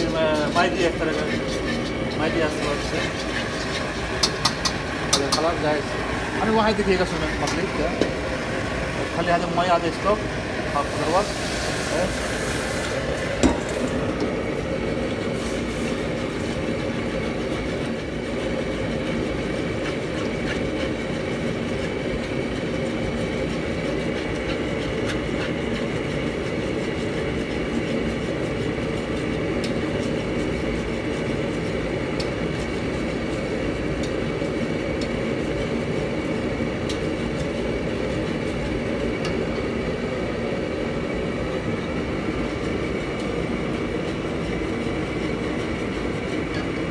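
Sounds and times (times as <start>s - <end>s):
gas wok burner roaring: 0.0s - 46.9s.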